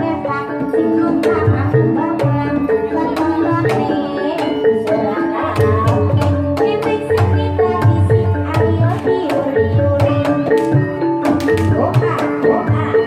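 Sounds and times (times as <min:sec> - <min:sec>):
ringing pitched percussion melody: 0:00.0 - 0:13.0.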